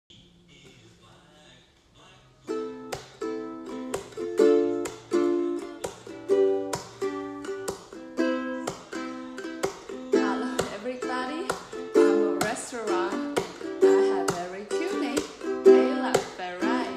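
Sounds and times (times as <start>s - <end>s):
ukulele strumming: 2.4s - 16.9s.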